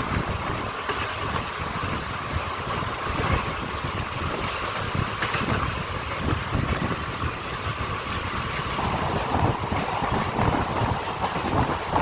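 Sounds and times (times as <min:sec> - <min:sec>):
train wheels clattering on rails: 0:00.0 - 0:12.0
wind buffeting microphone: 0:00.0 - 0:12.0.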